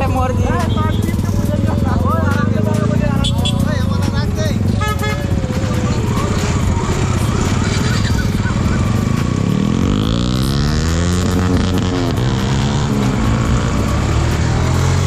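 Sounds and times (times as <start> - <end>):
motorcycle engine revving: 0.0 - 15.0
motorcycle engines running: 0.0 - 15.0.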